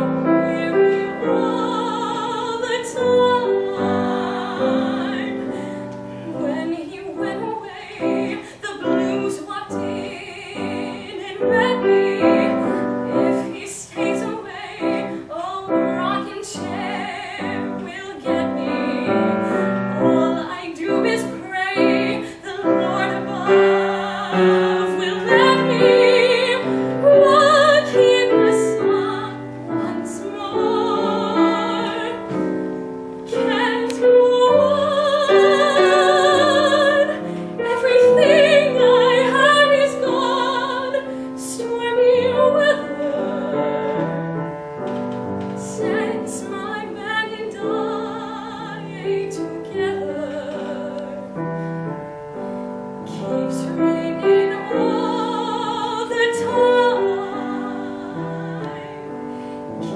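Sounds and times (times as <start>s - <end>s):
woman singing with vibrato: 0.0s - 44.2s, 45.5s - 51.6s, 53.0s - 59.9s
piano accompaniment: 0.0s - 59.9s.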